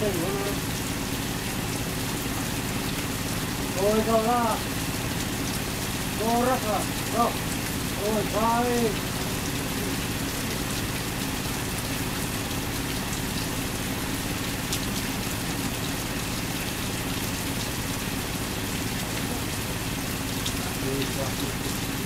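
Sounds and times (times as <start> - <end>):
faint diesel engine drone: 0.0 - 22.0
steady rain falling: 0.0 - 22.0.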